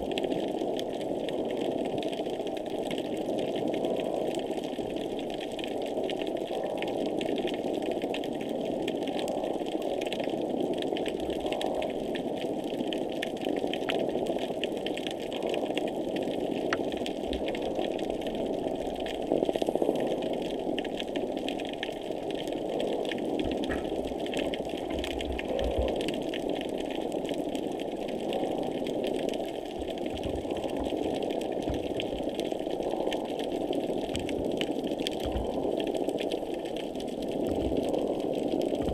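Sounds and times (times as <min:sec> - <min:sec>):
crackle of tiny clicks: 0:00.0 - 0:38.9
underwater machine drone: 0:00.0 - 0:38.9.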